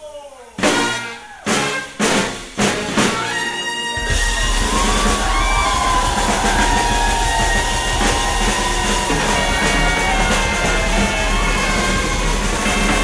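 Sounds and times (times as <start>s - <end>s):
brass band playing: 0.6s - 13.0s
drums rolling: 0.6s - 13.0s.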